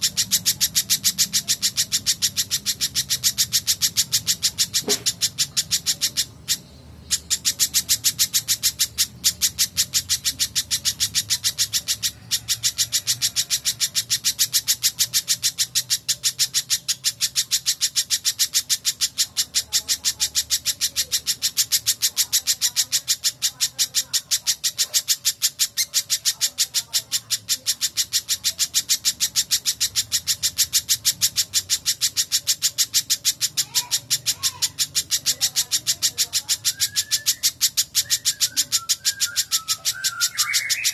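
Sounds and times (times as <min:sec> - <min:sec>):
bird rapid high chips: 0:00.0 - 0:40.9.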